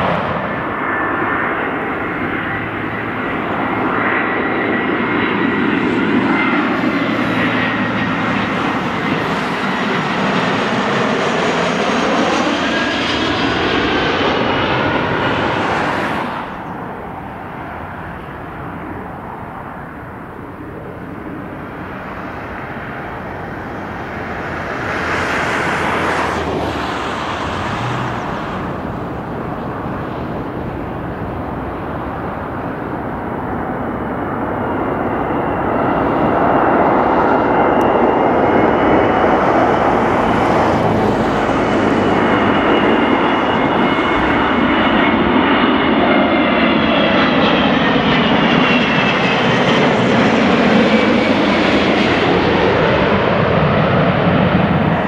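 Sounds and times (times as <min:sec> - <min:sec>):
distant jet noise: 0:00.0 - 0:55.0
jet engines passing overhead: 0:00.0 - 0:55.0.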